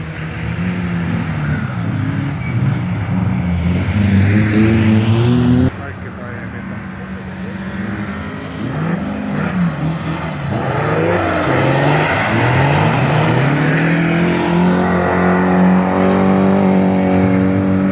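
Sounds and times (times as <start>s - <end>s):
race car engines revving: 0.0s - 17.9s.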